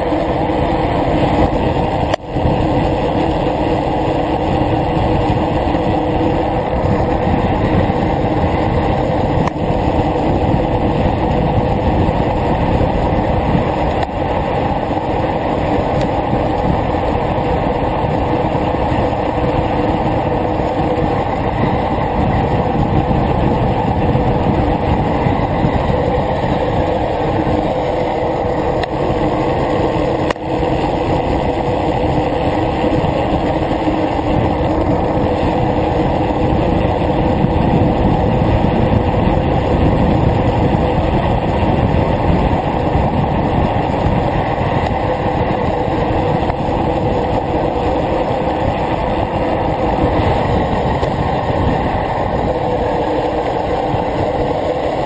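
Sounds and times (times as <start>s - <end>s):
wind rush over microphone: 0.0s - 55.0s.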